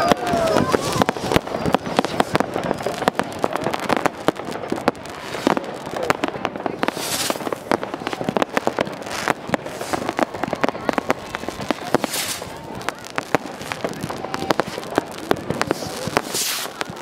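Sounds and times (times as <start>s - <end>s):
firecracker and rocket bangs: 0.0s - 17.0s
firework hiss: 0.0s - 17.0s
firework whistles: 0.0s - 17.0s.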